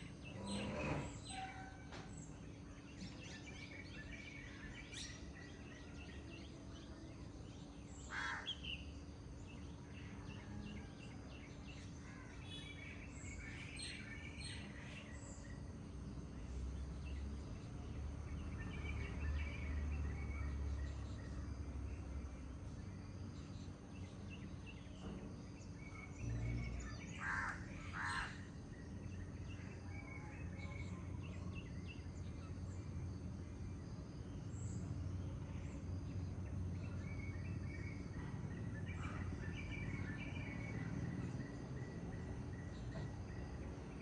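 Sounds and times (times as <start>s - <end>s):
songbirds chirping and singing: 0.0s - 44.0s.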